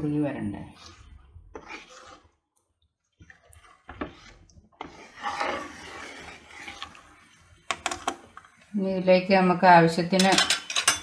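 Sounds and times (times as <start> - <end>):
ladle stirring and scraping pan: 0.0 - 11.0.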